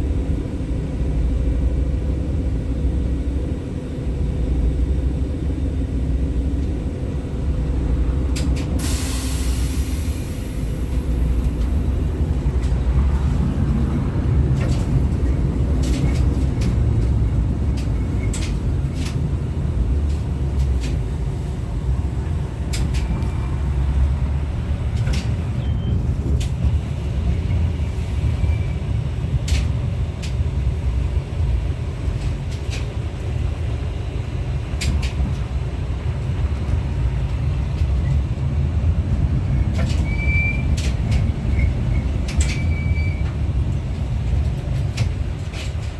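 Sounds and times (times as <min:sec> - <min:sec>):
tram rumbling on rails: 0:00.0 - 0:45.9.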